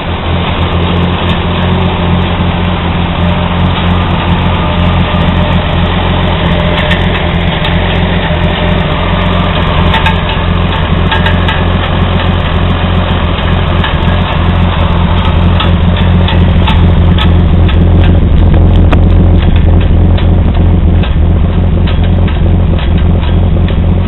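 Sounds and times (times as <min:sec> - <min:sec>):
engine idling with light ticks: 0:00.0 - 0:24.0.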